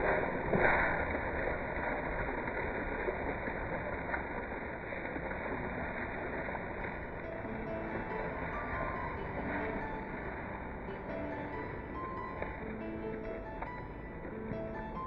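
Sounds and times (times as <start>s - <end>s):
rain: 0.0s - 15.0s
wind: 0.0s - 15.0s.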